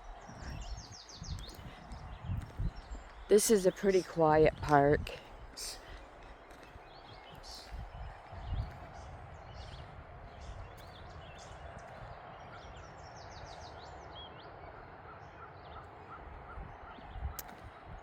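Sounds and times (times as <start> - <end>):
small birds chirping and singing: 0.0 - 18.0.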